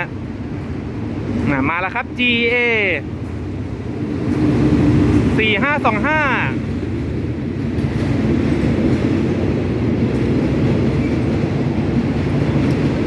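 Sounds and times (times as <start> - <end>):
train rumbling past on rails: 0.0 - 13.0.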